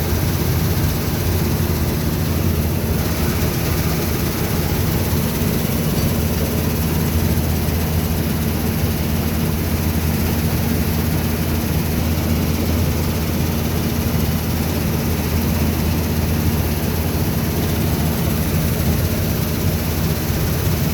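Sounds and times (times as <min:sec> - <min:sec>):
diesel farm machinery droning: 0:00.0 - 0:20.9.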